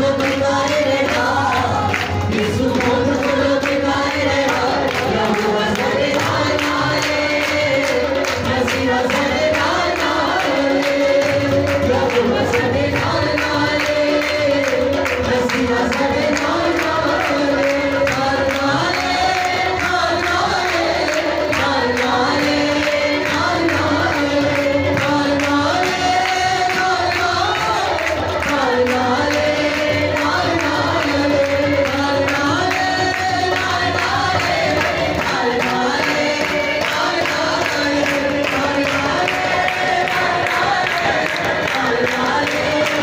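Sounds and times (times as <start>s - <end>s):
hand drums rhythm: 0.0s - 43.0s
harmonium: 0.0s - 43.0s
voices singing along: 0.0s - 43.0s.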